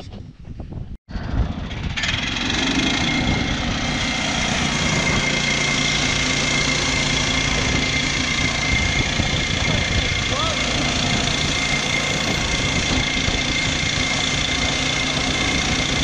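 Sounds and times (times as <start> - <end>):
saw blade whining through log: 1.1 - 16.0
small gasoline engine running: 1.1 - 16.0.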